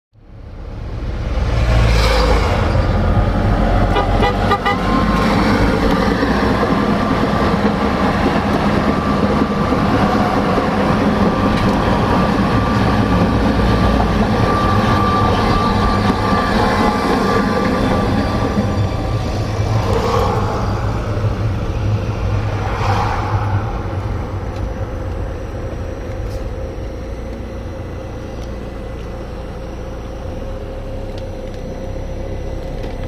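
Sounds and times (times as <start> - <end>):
car engine and road rumble: 0.2 - 33.0
steady high whine: 0.2 - 33.0.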